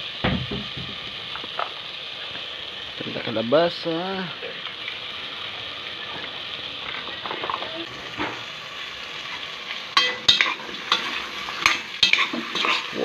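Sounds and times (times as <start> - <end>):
squash sizzling in a metal pot: 0.0 - 13.0.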